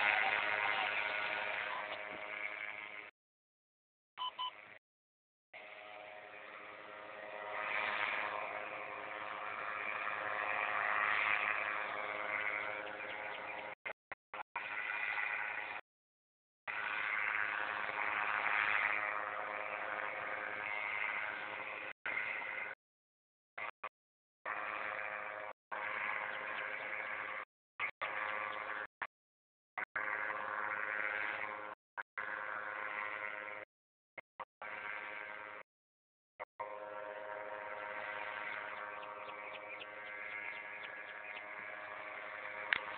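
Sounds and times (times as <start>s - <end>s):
paramotor engine buzzing drone: 0.0s - 3.2s, 4.2s - 4.8s, 5.6s - 15.8s, 16.7s - 22.8s, 23.6s - 29.1s, 29.7s - 35.7s, 36.4s - 42.9s.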